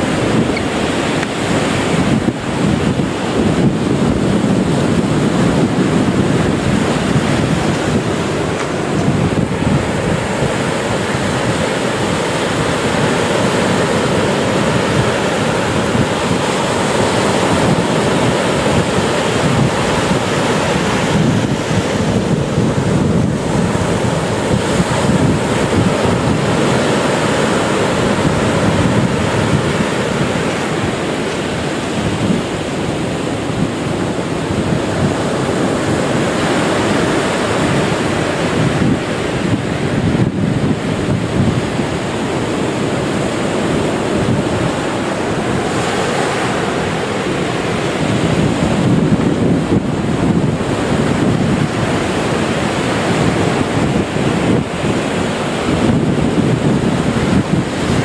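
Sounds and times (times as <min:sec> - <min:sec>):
waves breaking: 0:00.0 - 0:58.0.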